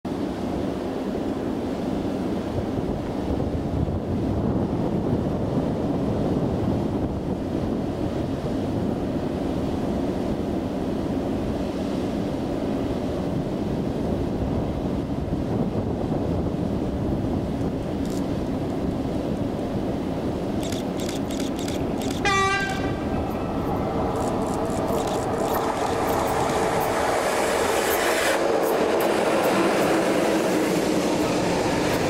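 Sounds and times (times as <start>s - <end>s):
distant electric train: 0.1s - 32.0s
wind rumble on microphone: 2.0s - 32.0s.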